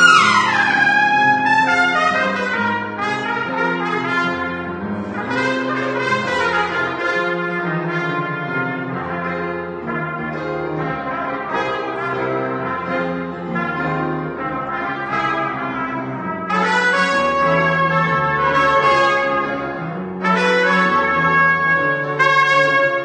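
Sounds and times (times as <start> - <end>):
piano accompaniment: 0.0 - 23.0
trumpets playing melody: 0.0 - 23.0.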